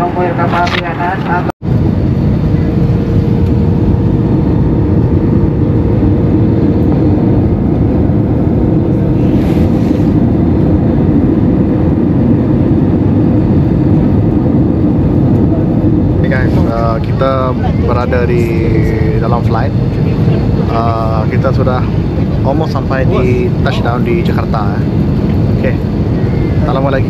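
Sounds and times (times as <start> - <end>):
airliner cabin engine and airflow noise: 0.0 - 27.0.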